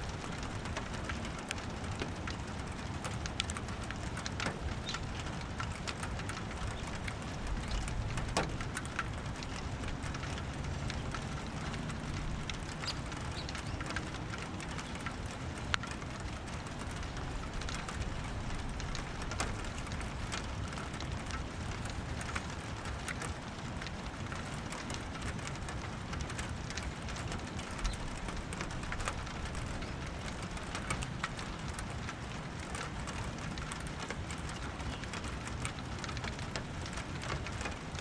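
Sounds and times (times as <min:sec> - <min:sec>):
raindrops tapping on a surface: 0:00.0 - 0:38.0
steady rain falling: 0:00.0 - 0:38.0.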